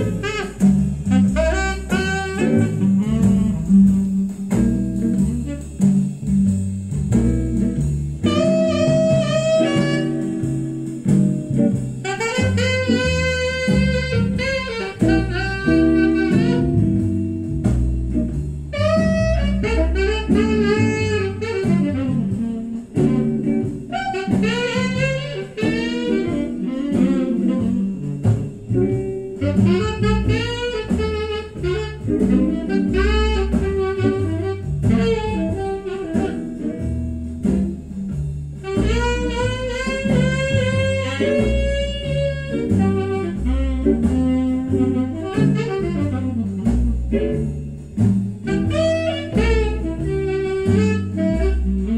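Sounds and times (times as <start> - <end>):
bass: 0.0 - 51.9
guitar: 0.0 - 51.9
jazz from a vinyl record: 0.0 - 51.9
saxophone: 0.0 - 51.9.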